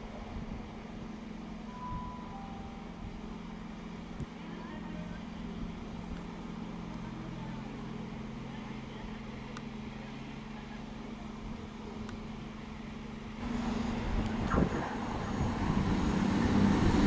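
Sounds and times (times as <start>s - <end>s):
train diesel engines droning: 0.0s - 17.0s.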